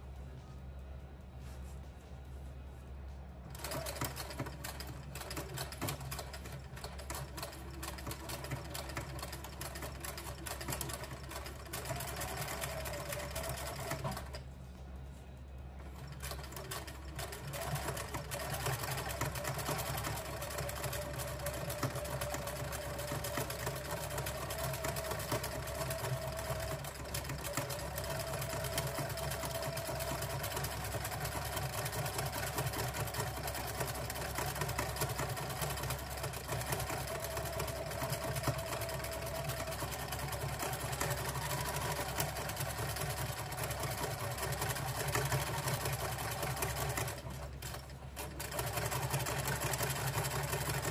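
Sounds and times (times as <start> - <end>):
sewing machine stitching: 3.5 - 14.4, 15.8 - 50.9.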